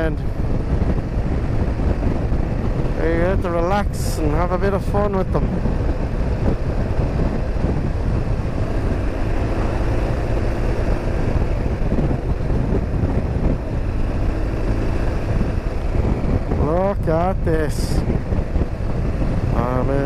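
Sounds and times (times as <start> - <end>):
motorcycle engine running: 0.0 - 20.0
wind rushing: 0.0 - 20.0.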